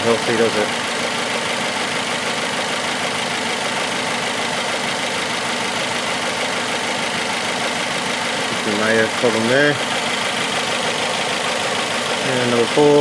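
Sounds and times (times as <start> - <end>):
misfiring engine idling: 0.0 - 13.0.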